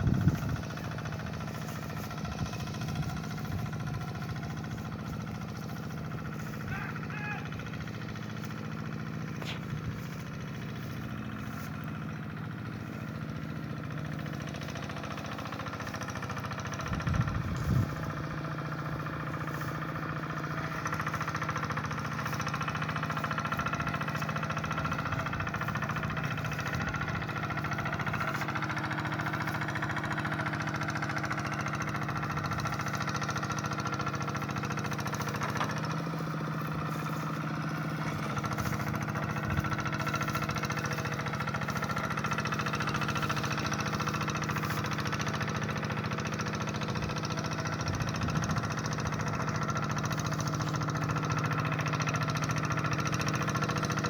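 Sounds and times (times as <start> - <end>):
hand tractor engine running: 0.0 - 54.0.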